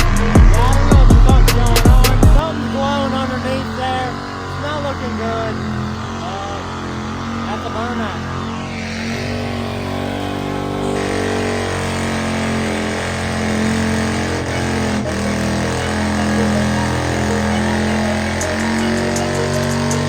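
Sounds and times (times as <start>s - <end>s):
truck engine at high revs: 0.0s - 20.0s.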